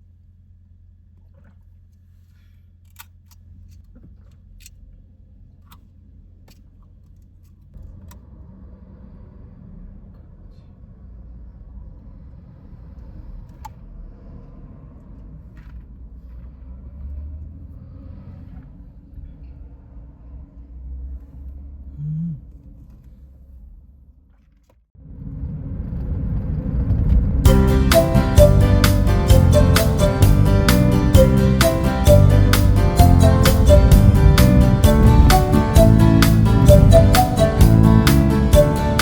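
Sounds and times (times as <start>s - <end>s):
car running on road: 3.9s - 24.2s, 25.0s - 39.0s.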